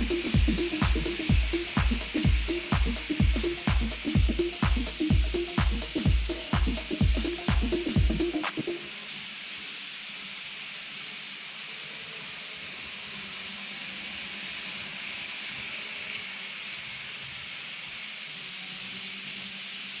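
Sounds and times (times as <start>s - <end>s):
model train wheels hissing on rails: 0.0s - 8.0s, 8.8s - 20.0s.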